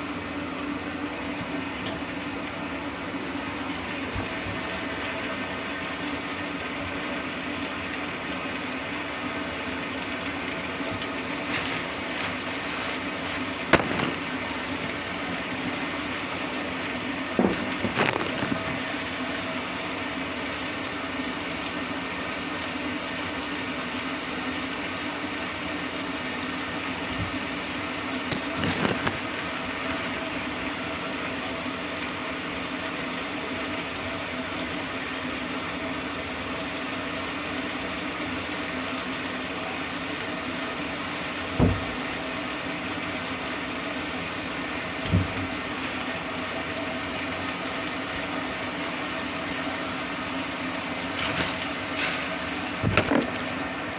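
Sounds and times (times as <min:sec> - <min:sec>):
steady hum: 0:00.0 - 0:53.9
water rushing: 0:00.0 - 0:53.9.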